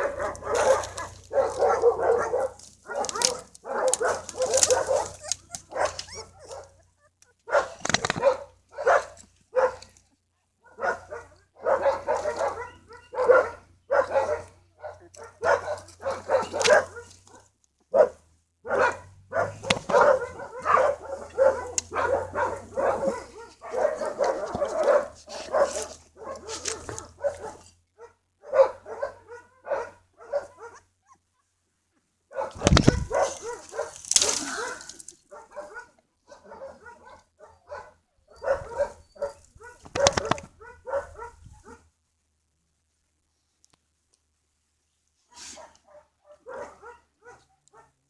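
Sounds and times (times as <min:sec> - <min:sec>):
dogs yipping and barking: 0:00.0 - 0:09.9, 0:10.6 - 0:31.6, 0:32.3 - 0:41.8, 0:45.3 - 0:48.0.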